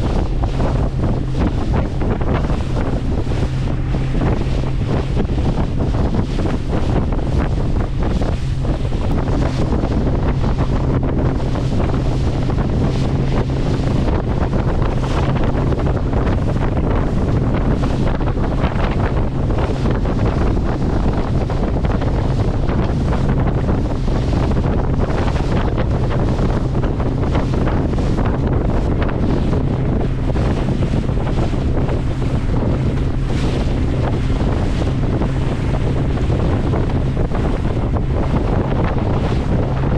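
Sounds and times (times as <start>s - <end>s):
boat engine droning: 0.0s - 39.9s
steady low hum: 0.0s - 39.9s
wind buffeting microphone: 0.0s - 39.9s.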